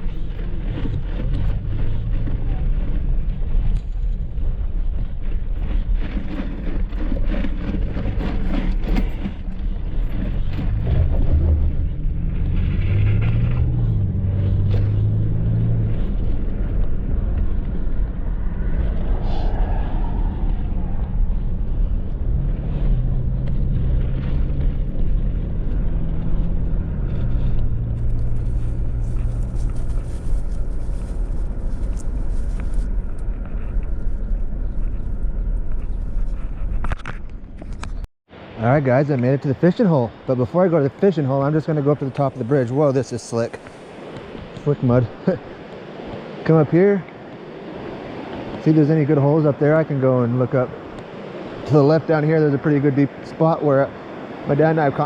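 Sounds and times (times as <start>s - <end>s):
pickup truck engine and road rumble: 0.0s - 55.0s.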